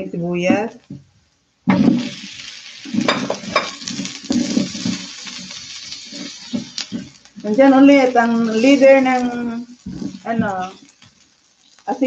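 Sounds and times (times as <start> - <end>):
onions sizzling in hot oil: 1.7 - 12.0
spatula scraping pan: 1.8 - 11.8.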